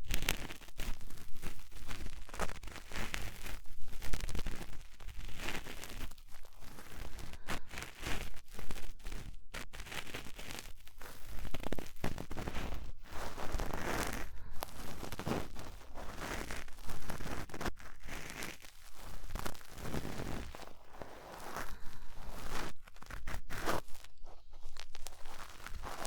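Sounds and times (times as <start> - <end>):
cotton swab scratching microphone: 0.0 - 26.0.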